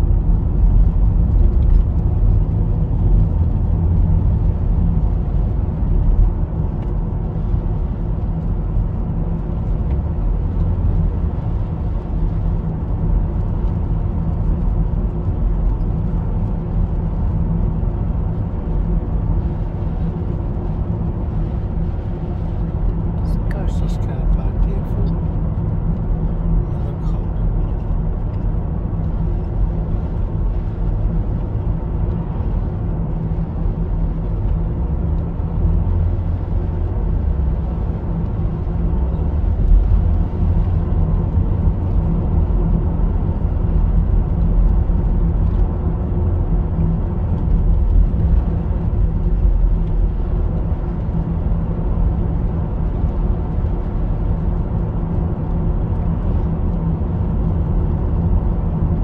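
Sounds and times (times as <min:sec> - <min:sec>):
car driving inside cabin: 0:00.0 - 0:59.0.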